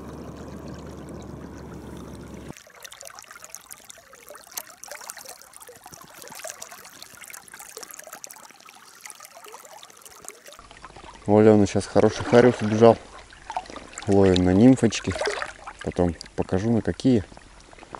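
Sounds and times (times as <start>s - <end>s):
small water splashes: 0.0s - 17.9s
water trickling and lapping: 0.0s - 17.9s.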